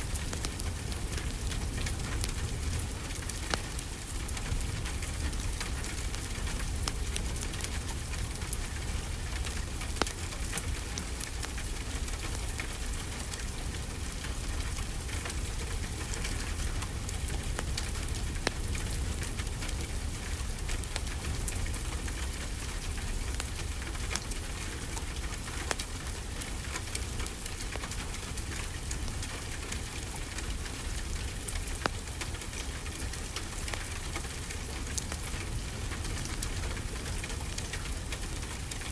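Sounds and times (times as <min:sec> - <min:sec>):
fireplace fire crackling: 0:00.0 - 0:38.9
steady rainfall: 0:00.0 - 0:38.9.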